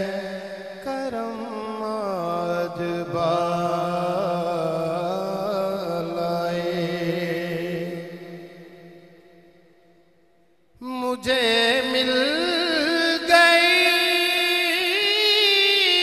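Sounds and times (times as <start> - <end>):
man singing drawn-out notes: 0.0 - 8.5, 10.8 - 16.0.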